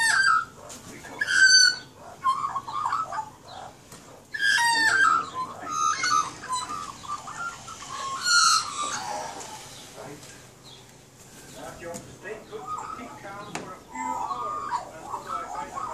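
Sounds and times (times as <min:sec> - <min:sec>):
magpies warbling: 0:00.0 - 0:15.9.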